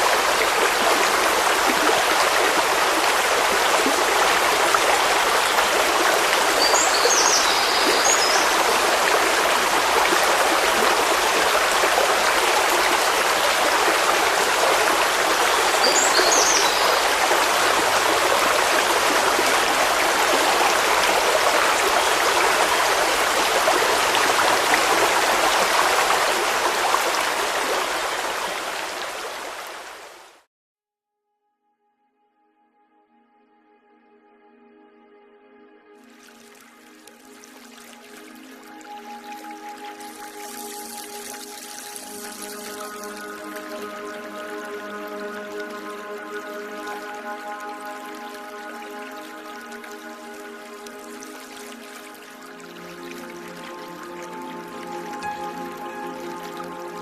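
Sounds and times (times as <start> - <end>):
stream water babbling: 0.0 - 30.5, 36.1 - 57.0.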